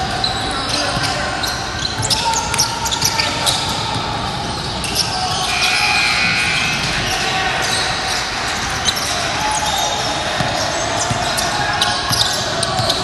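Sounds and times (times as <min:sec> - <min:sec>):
echoing hall noise with voices: 0:00.0 - 0:13.0
sneaker squeaks: 0:00.0 - 0:13.0.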